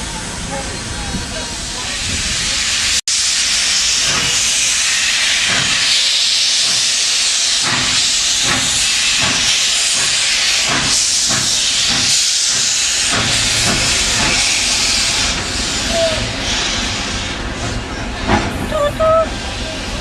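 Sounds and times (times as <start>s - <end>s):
steam hissing: 0.1s - 20.0s
steam locomotive exhaust puffs: 1.0s - 20.0s.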